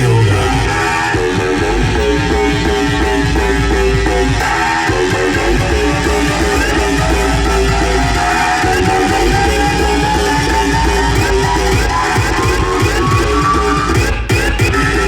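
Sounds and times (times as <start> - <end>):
dance music with heavy bass: 0.0 - 15.0
rising synth tone: 0.0 - 15.0.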